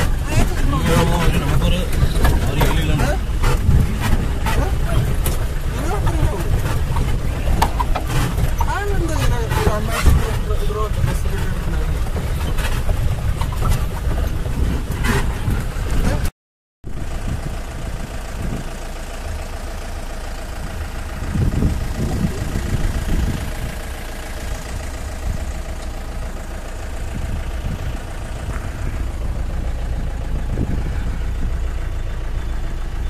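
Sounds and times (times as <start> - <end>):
jeep engine running: 0.0 - 16.3, 16.9 - 33.0
road noise on dirt track: 0.0 - 33.0.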